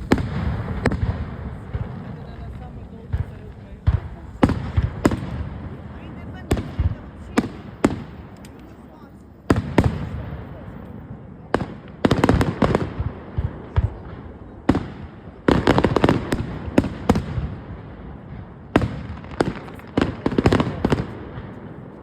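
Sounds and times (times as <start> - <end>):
fireworks bangs: 0.0 - 22.0
fireworks crackling pops: 0.0 - 22.0.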